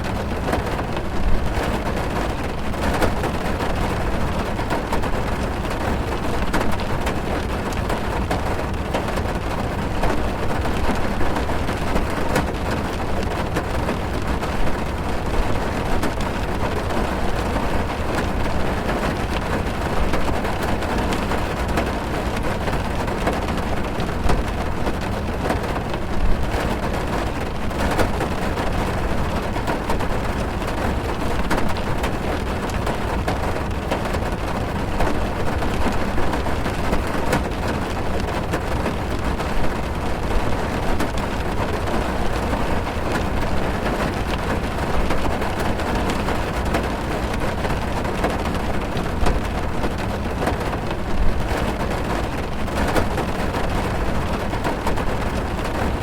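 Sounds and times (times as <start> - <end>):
heavy rain drumming on car roof: 0.0 - 56.0.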